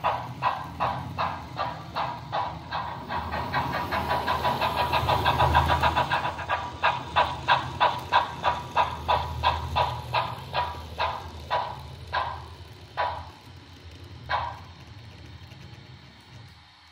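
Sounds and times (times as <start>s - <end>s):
model steam locomotive chuffing: 0.0s - 16.9s.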